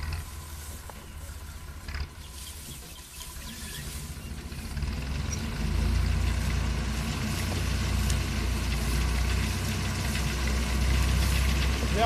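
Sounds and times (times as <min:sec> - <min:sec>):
reaper engine humming: 0:00.0 - 0:12.0.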